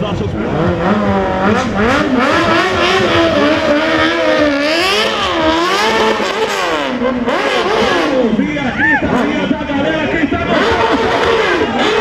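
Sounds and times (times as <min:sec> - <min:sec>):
motorcycle engine revving hard: 0:00.0 - 0:12.0.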